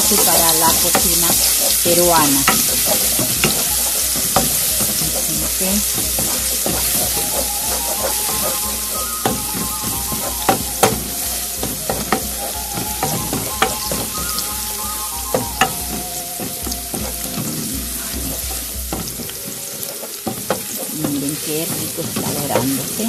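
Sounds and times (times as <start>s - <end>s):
garlic sizzling in oil: 0.0s - 23.0s
wooden spoon clicking on pan: 0.0s - 23.0s.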